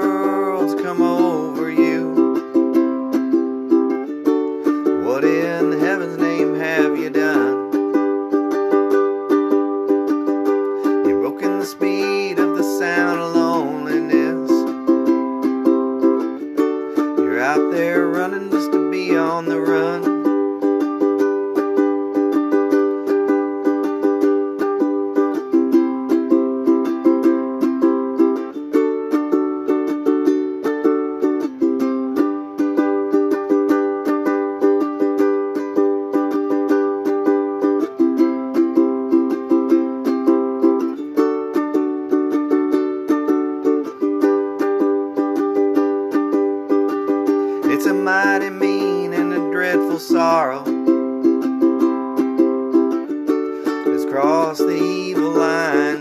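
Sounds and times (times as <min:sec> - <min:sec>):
ukulele strumming chords: 0:00.0 - 0:56.0.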